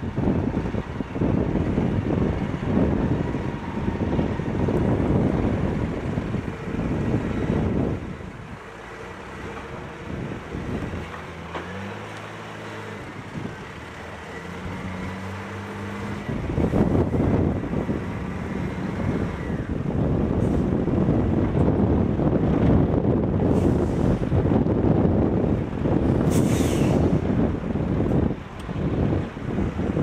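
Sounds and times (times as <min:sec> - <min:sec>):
loader diesel engine running: 0:00.0 - 0:30.0.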